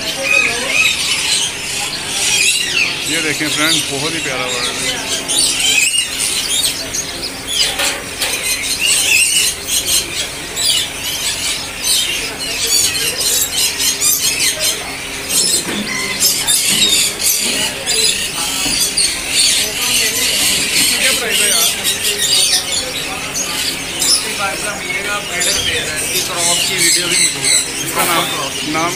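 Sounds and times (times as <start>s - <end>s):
many birds chirping and squealing: 0.0s - 28.9s.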